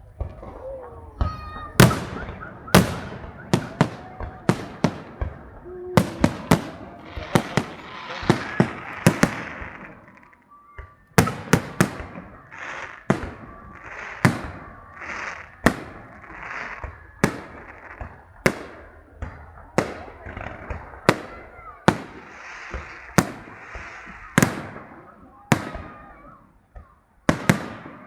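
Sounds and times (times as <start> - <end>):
fireworks crackling: 0.0 - 28.0
fireworks shells bursting: 0.0 - 28.0.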